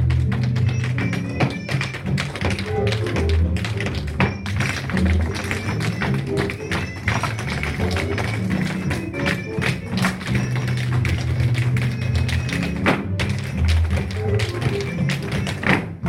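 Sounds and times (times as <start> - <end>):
dance shoes tapping hard floor: 0.0 - 16.0
music with bass line: 0.0 - 16.0.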